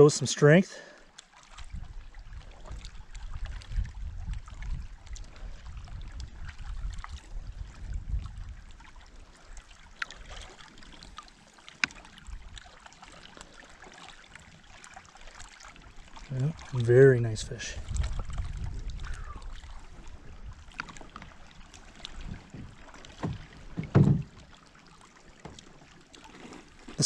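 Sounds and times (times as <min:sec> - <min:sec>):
water lapping and trickling: 0:00.0 - 0:27.0.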